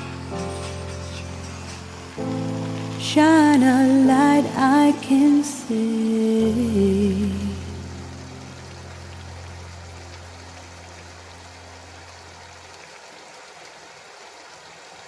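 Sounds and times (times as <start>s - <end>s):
song's low sustained note: 0.0s - 12.8s
steady hiss: 0.0s - 14.0s.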